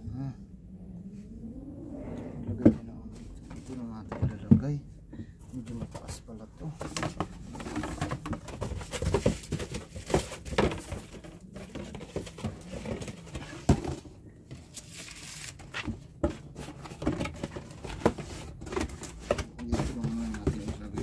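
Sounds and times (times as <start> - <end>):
objects handled on a desk: 2.6 - 21.0.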